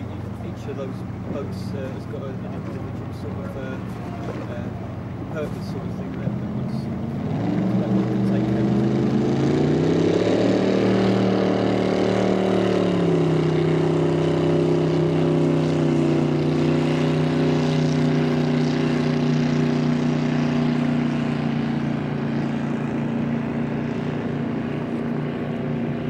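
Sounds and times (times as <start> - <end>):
speedboat engine running hard: 0.0 - 26.0.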